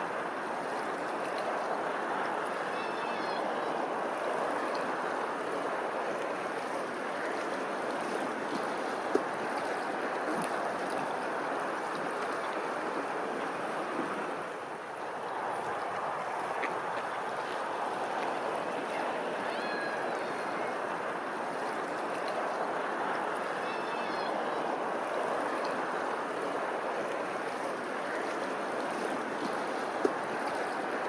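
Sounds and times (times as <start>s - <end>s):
running water: 0.0s - 31.0s.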